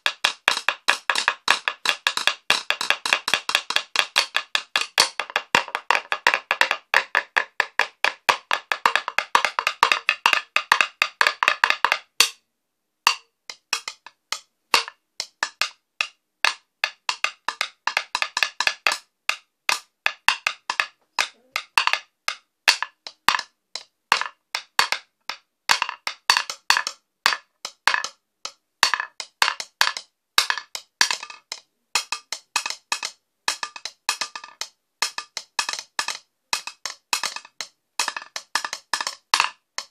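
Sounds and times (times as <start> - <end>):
wooden sticks drumming on wood: 0.0 - 12.4, 13.0 - 39.9.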